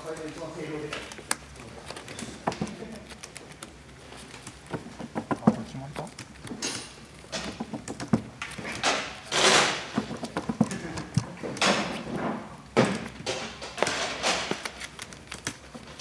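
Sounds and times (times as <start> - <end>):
deck shuffling: 0.0 - 16.0.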